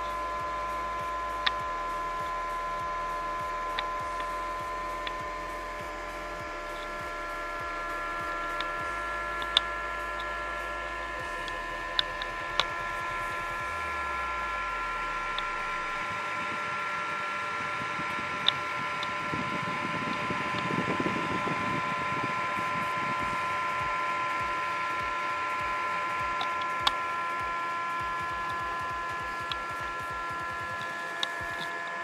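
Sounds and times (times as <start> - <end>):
fan and pump high whine: 0.0 - 32.0.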